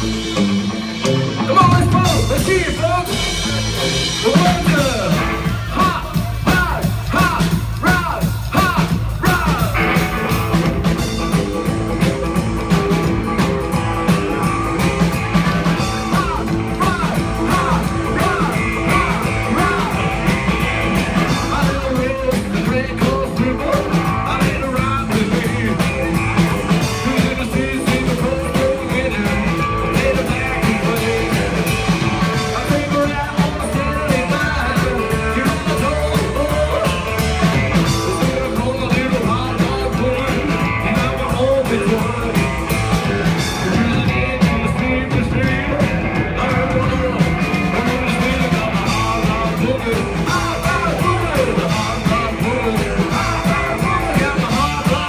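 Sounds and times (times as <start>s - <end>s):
drums: 0.0s - 55.0s
electric guitar: 0.0s - 55.0s
rockabilly band playing live: 0.0s - 55.0s
upright double bass: 0.0s - 55.0s
lead vocal singing: 1.4s - 11.2s, 14.0s - 55.0s.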